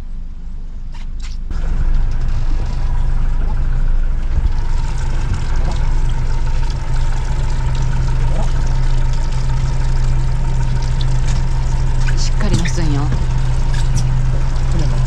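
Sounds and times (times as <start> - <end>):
boat engine idling: 1.5 - 15.0.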